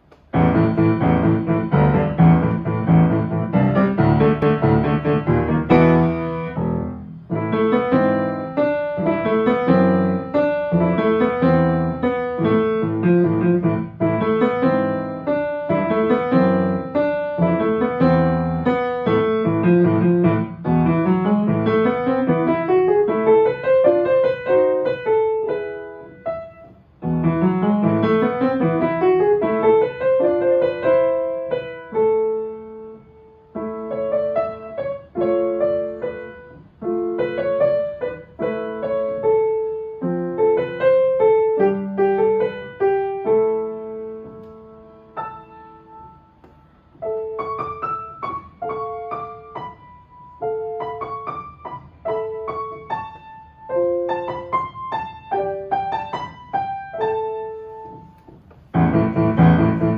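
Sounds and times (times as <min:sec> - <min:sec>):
upright piano playing: 0:00.0 - 0:59.9.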